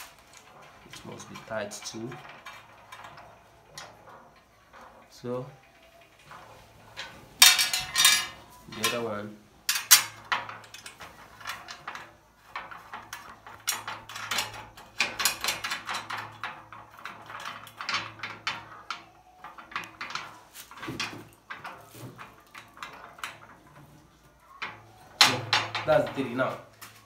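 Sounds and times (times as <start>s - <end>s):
metal parts clicking and scraping: 0.0s - 27.0s.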